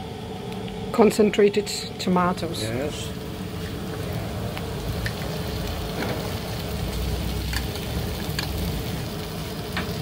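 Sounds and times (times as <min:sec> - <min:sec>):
onion sizzling in hot oil: 0:01.0 - 0:10.0.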